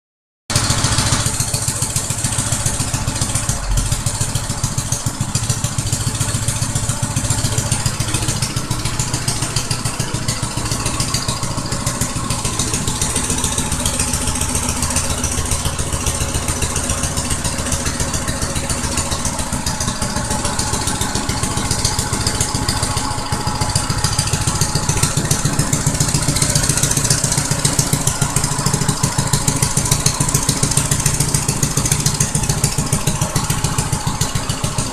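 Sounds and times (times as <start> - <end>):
small engine running: 0.5 - 34.9.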